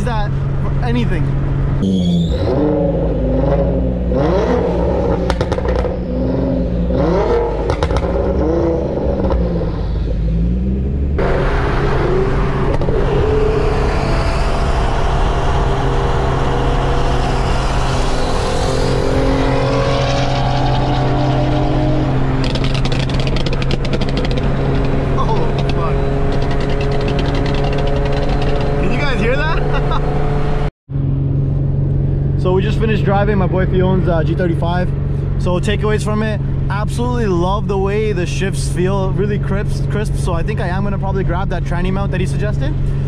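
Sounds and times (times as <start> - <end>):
car engine revving: 0.0 - 43.0
road noise at highway speed: 0.0 - 43.0.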